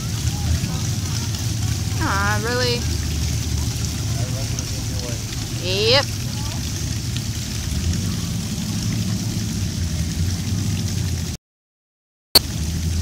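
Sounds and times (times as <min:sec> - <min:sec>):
car engines cruising past: 0:00.0 - 0:11.4.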